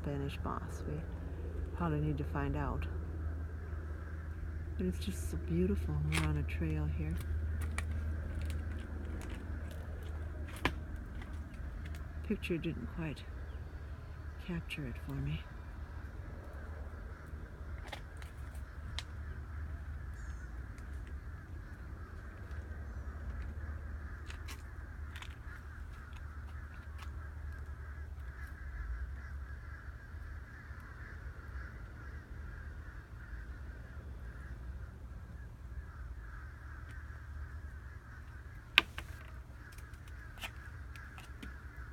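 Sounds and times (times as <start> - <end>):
low rumble: 0.0 - 38.5
crow-like bird calls: 3.0 - 41.9.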